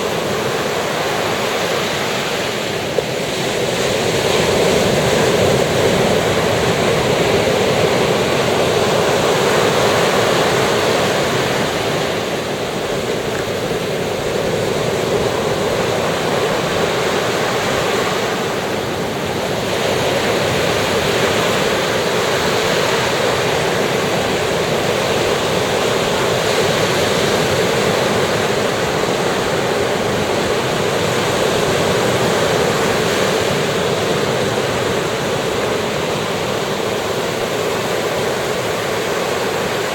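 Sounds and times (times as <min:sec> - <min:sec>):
sea waves washing on beach: 0:00.0 - 0:39.9.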